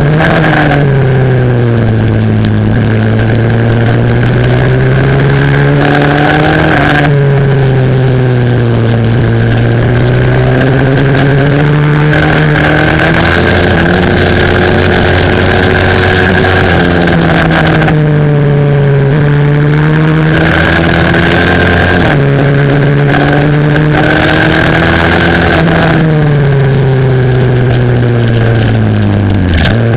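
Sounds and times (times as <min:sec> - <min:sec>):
pit bike engine racing: 0:00.0 - 0:29.9.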